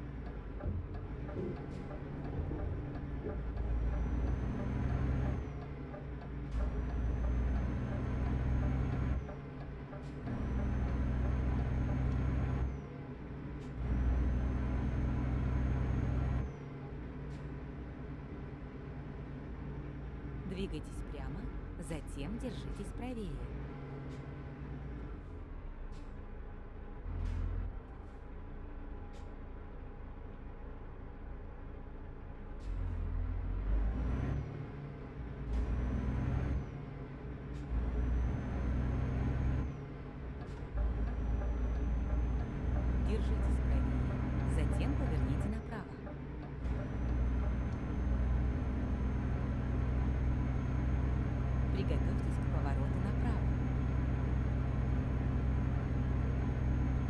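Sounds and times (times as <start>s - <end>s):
truck engine drone: 0.0s - 57.0s.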